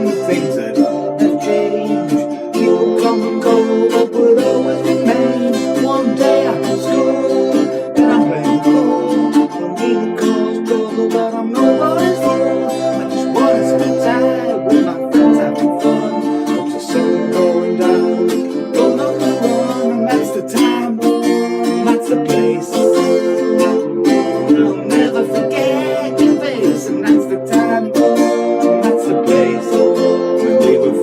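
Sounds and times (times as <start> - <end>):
plucked string instrument music: 0.0 - 31.0.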